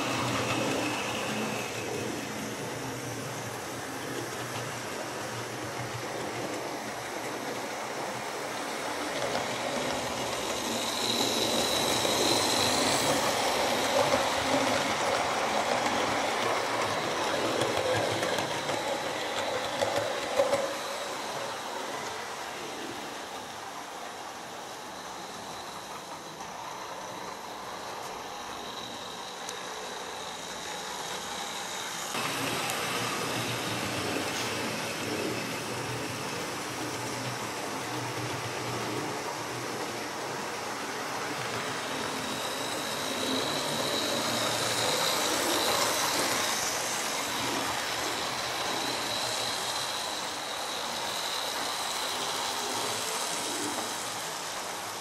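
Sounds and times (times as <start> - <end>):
wheels rattling on track: 0.0 - 23.0, 25.2 - 55.0
model train motor whirring: 0.0 - 55.0.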